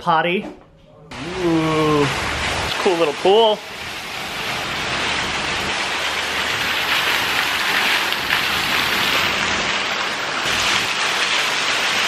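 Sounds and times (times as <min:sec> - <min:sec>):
fountain splashing: 0:01.1 - 0:12.0.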